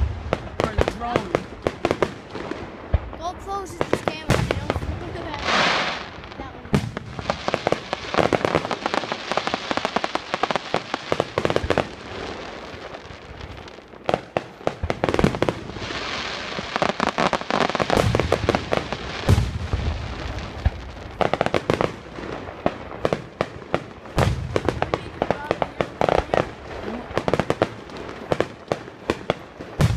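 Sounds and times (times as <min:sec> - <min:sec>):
fireworks bangs: 0:00.0 - 0:29.9
fireworks crackling: 0:00.0 - 0:29.9.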